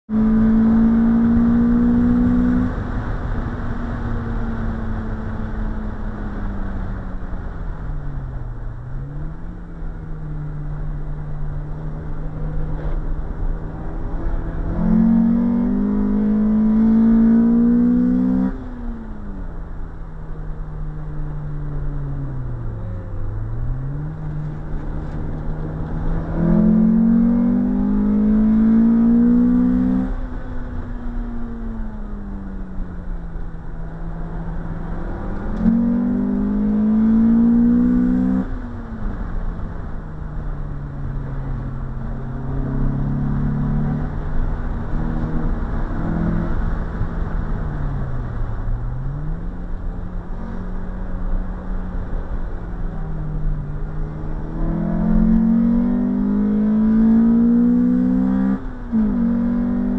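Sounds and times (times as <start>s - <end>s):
car engine accelerating: 0.0s - 59.9s
wind and tyre noise: 0.1s - 59.9s.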